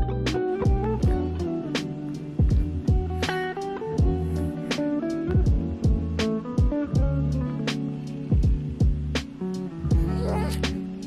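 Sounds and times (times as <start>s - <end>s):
drum beat with kick drum: 0.0s - 7.2s, 8.3s - 10.8s
guitar with sliding notes: 0.0s - 11.0s.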